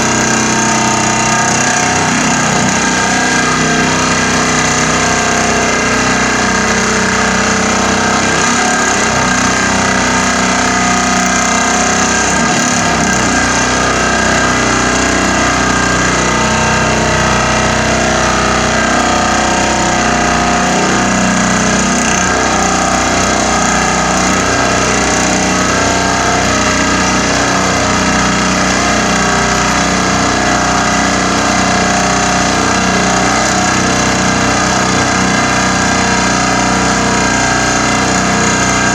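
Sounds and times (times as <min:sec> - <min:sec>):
vibratory pile hammer drone: 0:00.0 - 0:38.9.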